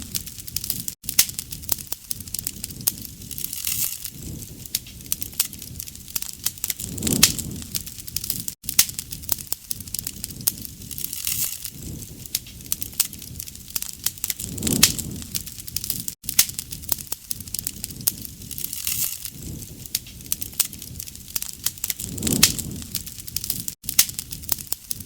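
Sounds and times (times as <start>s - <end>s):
soft rush of flame: 0.0s - 25.0s
wood fire crackling and popping: 0.0s - 25.0s.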